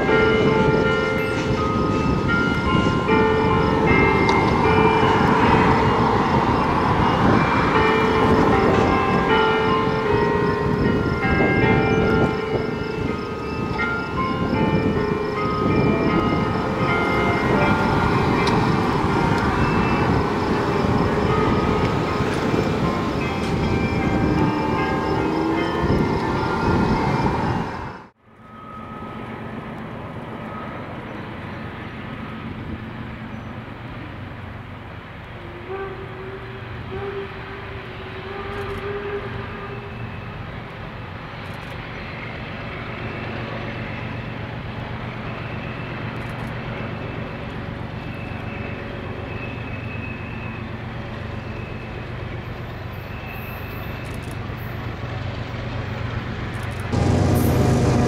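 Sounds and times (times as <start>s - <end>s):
diesel locomotive engine rumbling: 0.0s - 58.0s.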